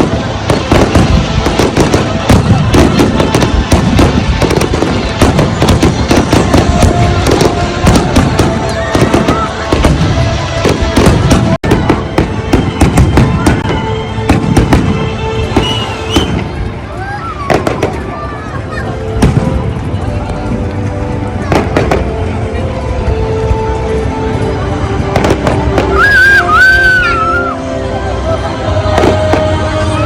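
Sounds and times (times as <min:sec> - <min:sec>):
fireworks bangs and crackles: 0:00.0 - 0:27.5, 0:28.8 - 0:30.0
faint music: 0:00.0 - 0:30.0.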